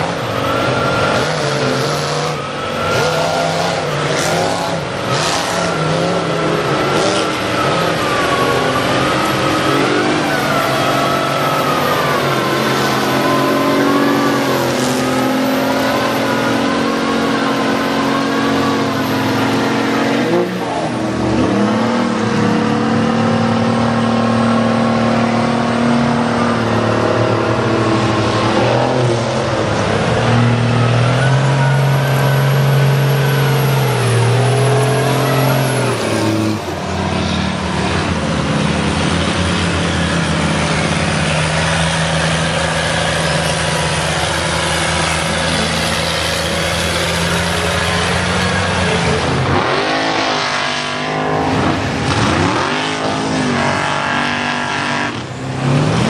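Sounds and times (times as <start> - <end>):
tires churning through mud: 0.0 - 56.0
truck engines revving: 0.0 - 56.0.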